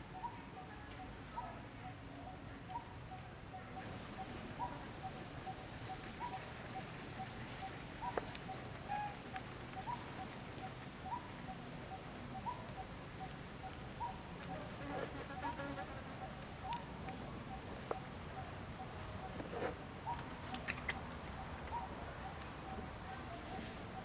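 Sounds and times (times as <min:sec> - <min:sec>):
insects whining and chirping: 0:00.0 - 0:24.0.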